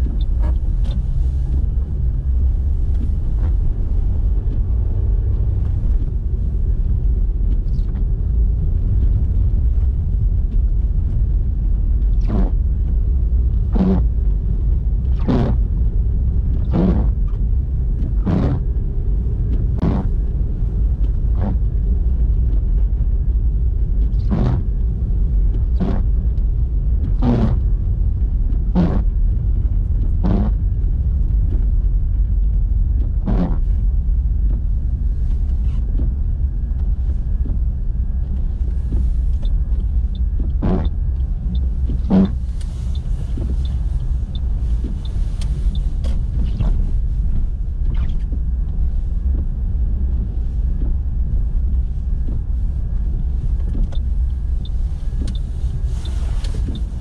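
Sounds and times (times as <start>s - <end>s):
car road and engine rumble: 0.0s - 57.0s
windscreen wipers sweeping: 0.0s - 57.0s.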